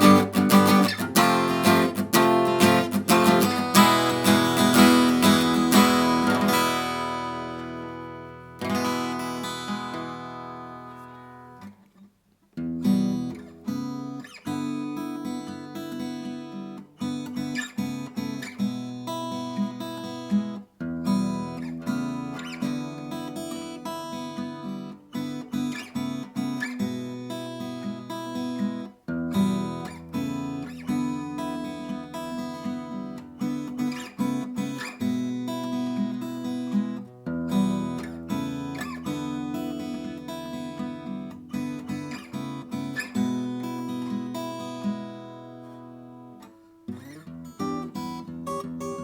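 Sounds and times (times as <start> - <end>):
acoustic guitar strumming: 0.0 - 11.8, 12.6 - 49.0.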